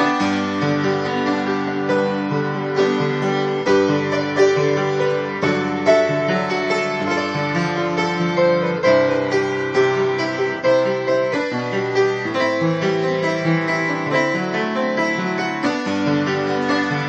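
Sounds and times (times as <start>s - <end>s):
solo piano ballad: 0.0s - 17.0s.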